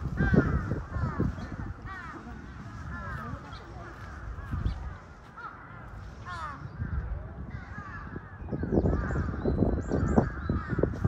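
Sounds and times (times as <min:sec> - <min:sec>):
people chattering: 0:00.0 - 0:09.3
crows cawing: 0:00.0 - 0:11.0.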